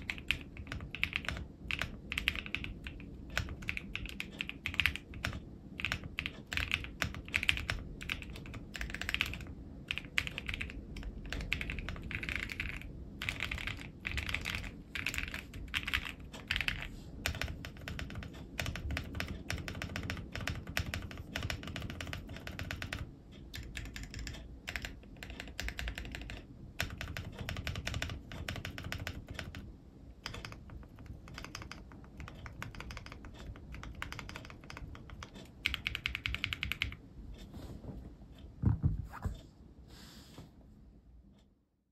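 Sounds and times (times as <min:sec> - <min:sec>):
mechanical keyboard typing: 0:00.0 - 0:37.0.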